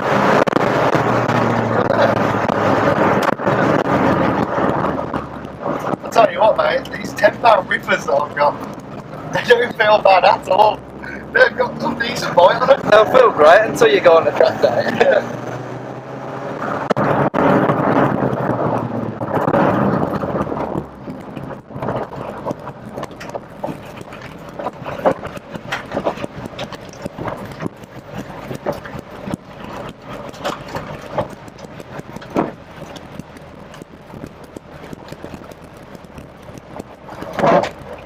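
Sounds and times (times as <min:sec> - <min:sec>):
car engine from inside cabin: 0:00.0 - 0:38.0
road noise: 0:00.0 - 0:38.0
knocks and clicks: 0:00.4 - 0:11.1, 0:15.2 - 0:38.0.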